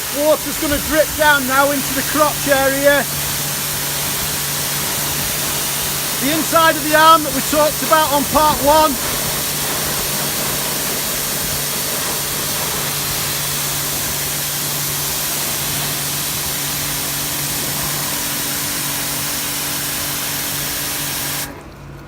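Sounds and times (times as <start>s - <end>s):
pressure washer spraying: 0.0s - 21.6s.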